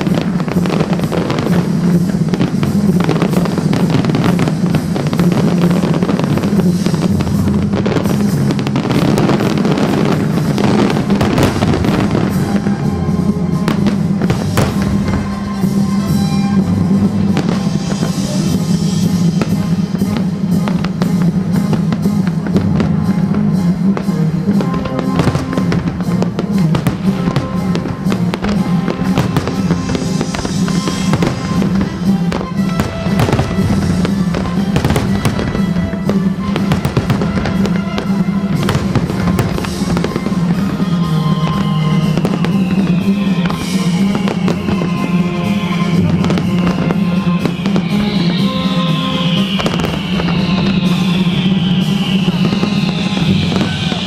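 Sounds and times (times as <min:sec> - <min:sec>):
fireworks shells bursting: 0:00.0 - 0:54.0
loud music: 0:00.0 - 0:54.0
falling whistling tones: 0:02.9 - 0:21.2, 0:27.0 - 0:54.0.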